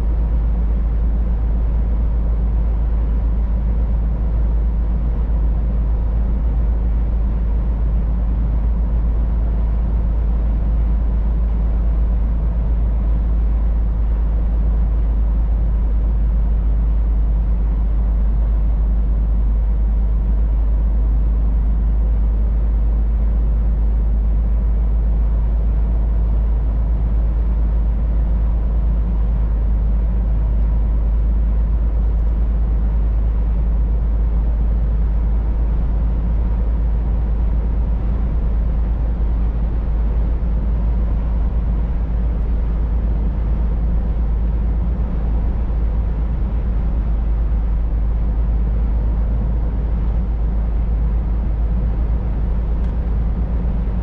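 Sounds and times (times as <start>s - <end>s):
truck cruising rumble: 0.0s - 54.0s.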